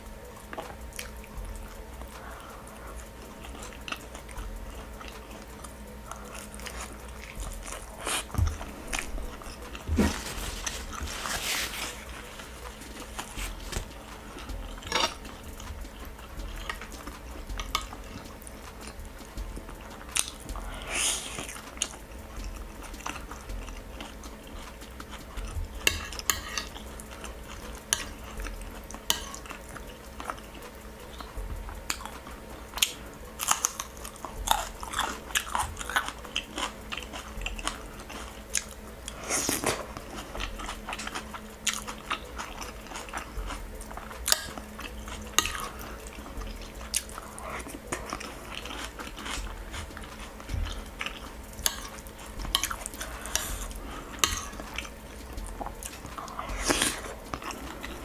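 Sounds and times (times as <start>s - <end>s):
chewing and biting food: 0.5s - 58.0s.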